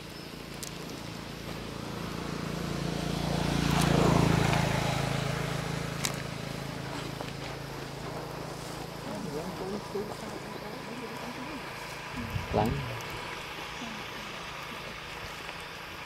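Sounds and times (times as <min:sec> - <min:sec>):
vehicle engine hum passing: 0:00.0 - 0:16.0.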